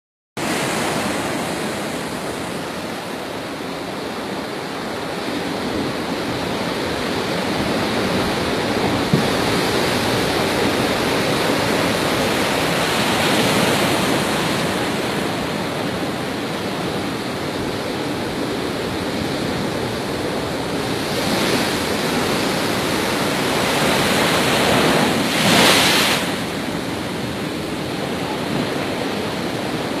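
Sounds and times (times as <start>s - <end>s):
heavy surf waves breaking: 0.4s - 30.0s.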